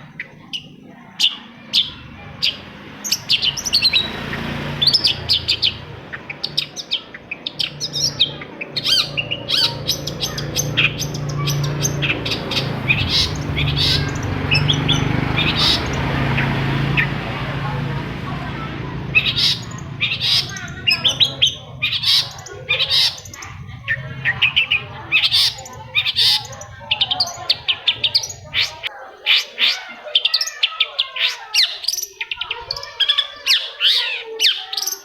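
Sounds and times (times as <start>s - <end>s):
low background hum: 0.0s - 28.9s
shrike calling: 0.0s - 35.0s.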